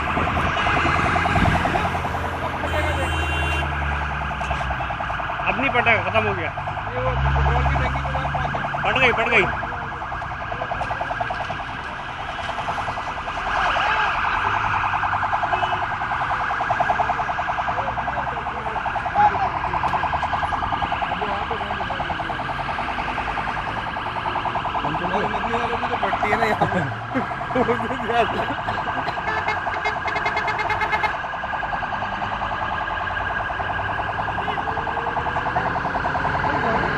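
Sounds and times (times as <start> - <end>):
electronic siren pulsing: 0.0 - 36.9
low traffic rumble: 0.0 - 36.9.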